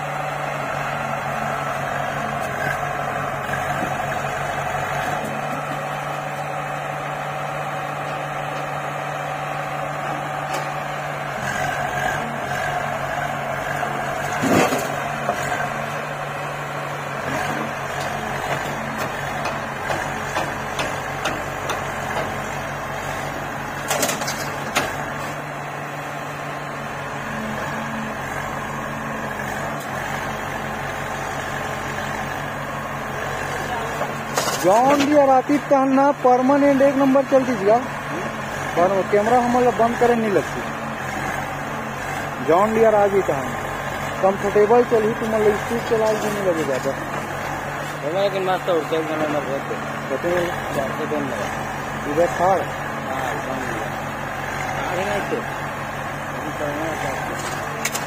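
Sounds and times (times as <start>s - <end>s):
backhoe diesel engine running: 0.0s - 58.0s
tractor engine running: 0.0s - 58.0s.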